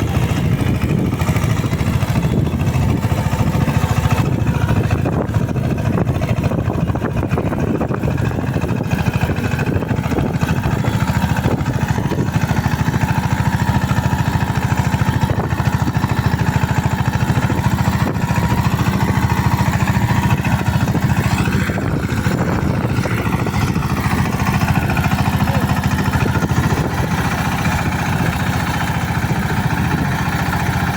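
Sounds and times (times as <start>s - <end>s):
diesel tractor engine running: 0.0s - 30.9s.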